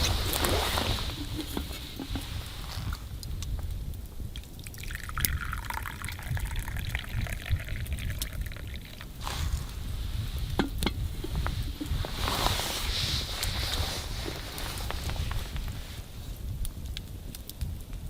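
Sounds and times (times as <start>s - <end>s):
liquid pouring in thin stream: 0.0s - 3.5s, 4.3s - 15.5s
steady low rumble: 0.0s - 16.8s.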